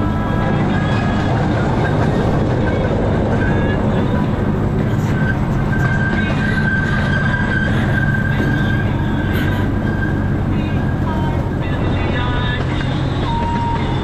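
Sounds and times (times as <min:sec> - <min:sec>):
miniature train rumbling on track: 0:00.0 - 0:14.0
wheels squealing on curve: 0:00.0 - 0:14.0.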